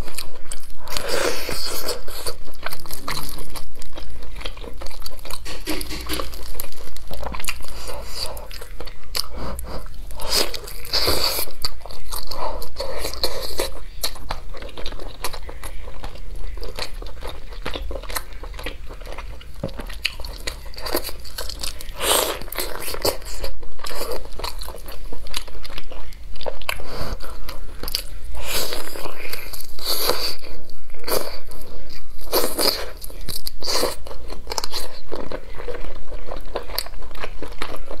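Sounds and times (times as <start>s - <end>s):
person chewing chicken: 0.0s - 38.0s.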